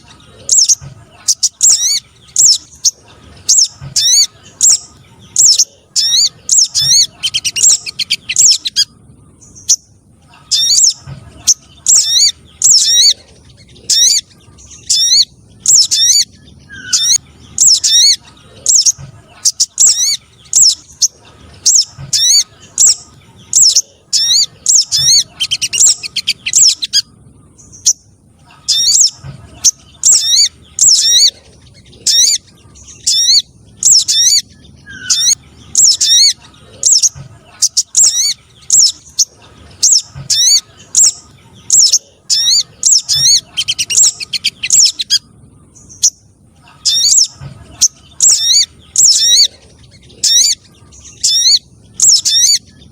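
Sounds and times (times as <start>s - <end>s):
sharp high bird chirps: 0.0s - 52.9s.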